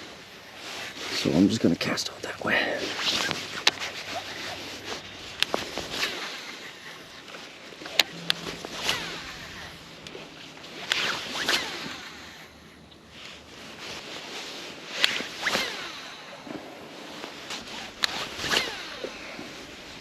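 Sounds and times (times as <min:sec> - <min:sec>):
fishing rod swishes: 0:02.8 - 0:16.1, 0:17.1 - 0:19.9.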